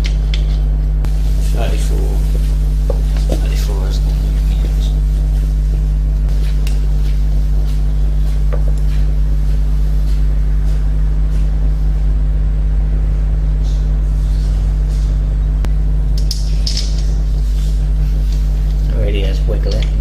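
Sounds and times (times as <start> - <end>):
loud low hum: 0.0 - 20.0.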